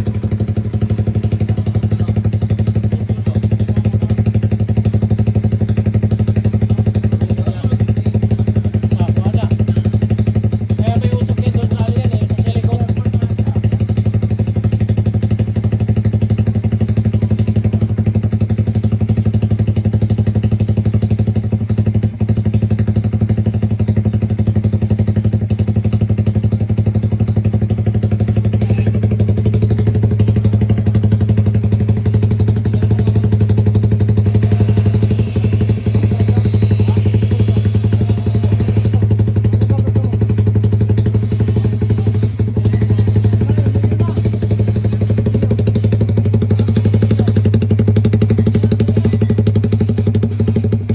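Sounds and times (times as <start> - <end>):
motorcycle engine idling loudly: 0.0 - 50.9.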